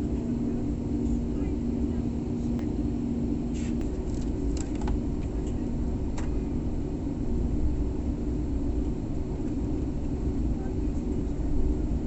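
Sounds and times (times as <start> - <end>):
jet engine and airflow rush: 0.0 - 12.0
low hum: 0.0 - 12.0.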